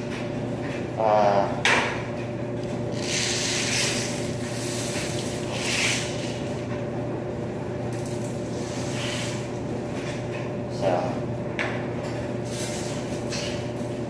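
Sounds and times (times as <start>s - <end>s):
laundry machines humming: 0.0s - 14.0s.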